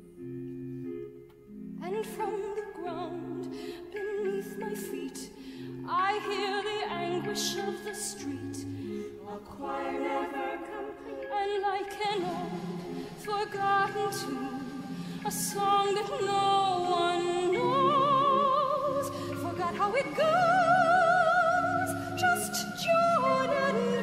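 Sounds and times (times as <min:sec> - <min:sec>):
operatic wordless singing: 0:01.8 - 0:24.0.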